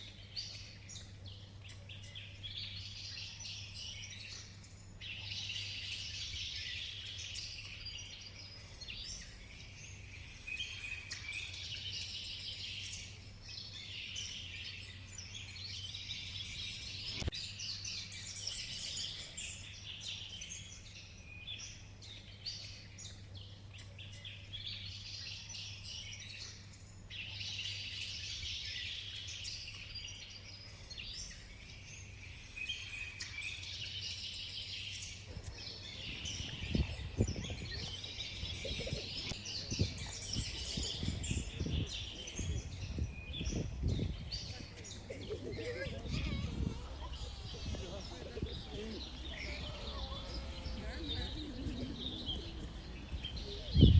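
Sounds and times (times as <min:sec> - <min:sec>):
birds chirping and calling: 0:00.1 - 0:53.9.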